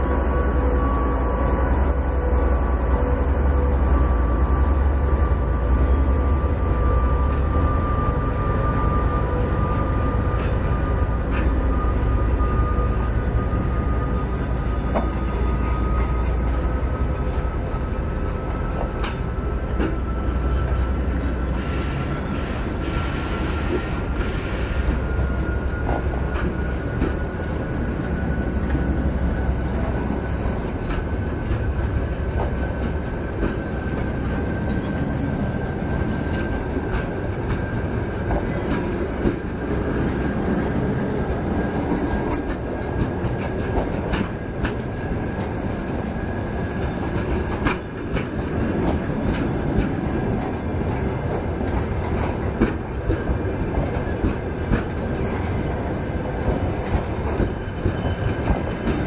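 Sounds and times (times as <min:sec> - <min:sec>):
rising train whine: 0:00.0 - 0:59.0
train rumble: 0:00.0 - 0:59.0.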